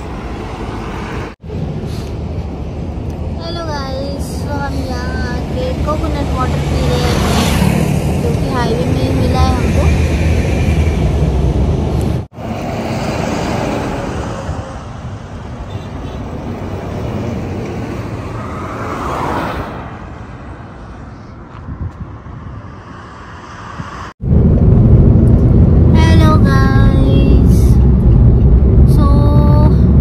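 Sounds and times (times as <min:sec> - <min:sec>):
road noise: 0:00.0 - 0:30.0
vehicle rumble: 0:00.0 - 0:30.0.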